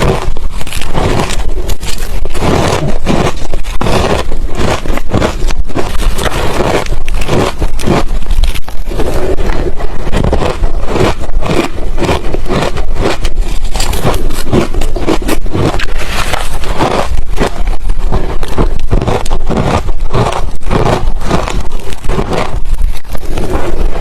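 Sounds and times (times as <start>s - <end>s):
person chewing ice: 0.0s - 24.0s.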